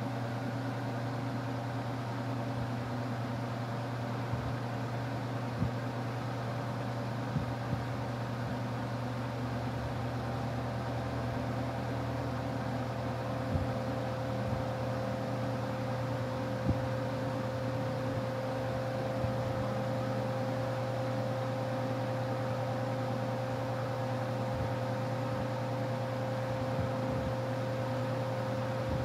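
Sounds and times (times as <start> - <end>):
fan motor hum: 0.0 - 29.0
floor fans rushing air: 0.0 - 29.0.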